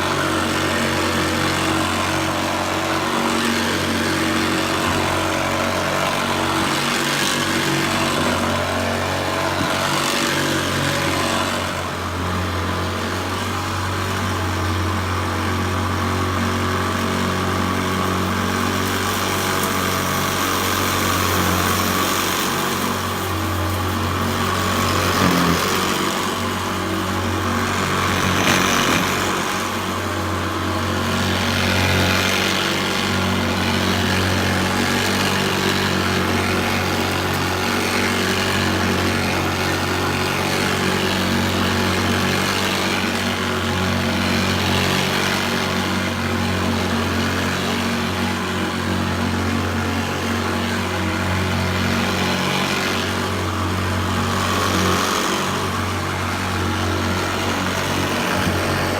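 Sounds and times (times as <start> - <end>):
vacuum cleaner on carpet: 0.0 - 58.9.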